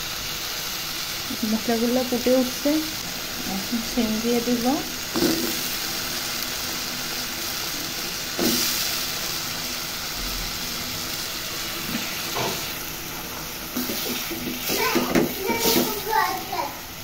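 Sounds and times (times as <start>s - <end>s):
spices sizzling in pot: 0.0s - 17.0s.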